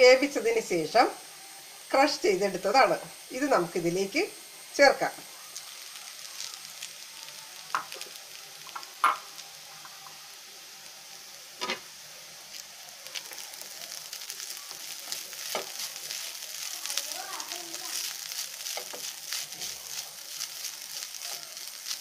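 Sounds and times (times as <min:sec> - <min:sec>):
food sizzling in oil in a pan: 0:00.0 - 0:22.0.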